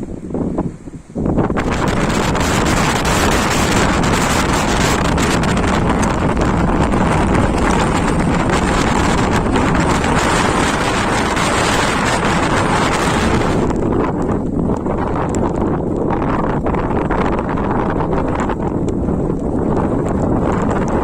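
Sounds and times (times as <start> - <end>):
blizzard wind buffeting microphone: 0.0 - 21.0.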